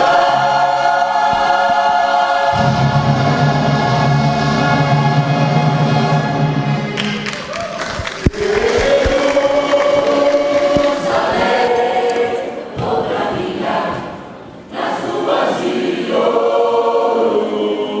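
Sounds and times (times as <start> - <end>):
choir singing held chords: 0.0 - 7.3, 8.1 - 18.0.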